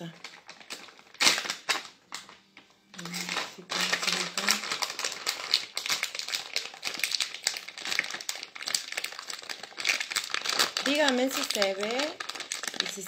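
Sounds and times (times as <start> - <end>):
plastic crinkling and rustling: 0.0 - 13.0.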